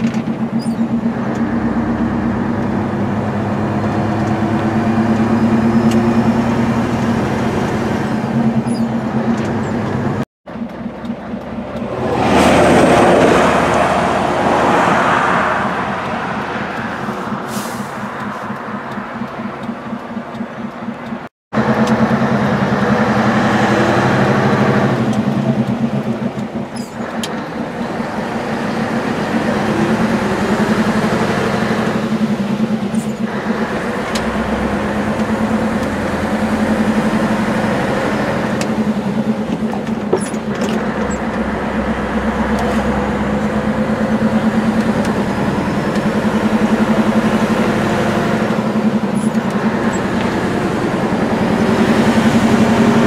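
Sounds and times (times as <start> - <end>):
diesel truck engine drone: 0.0 - 53.0.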